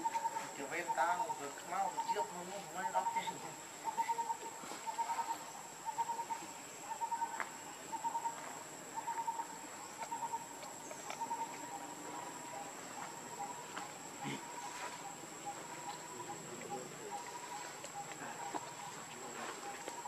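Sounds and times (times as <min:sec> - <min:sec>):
insects chirping: 0:00.0 - 0:20.0
steady high-pitched whine: 0:00.0 - 0:20.0.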